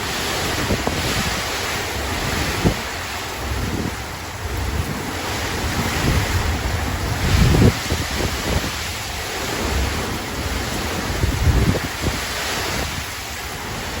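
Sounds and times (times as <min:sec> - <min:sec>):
storm wind gusting: 0:00.0 - 0:14.0
wind buffeting microphone: 0:00.0 - 0:14.0.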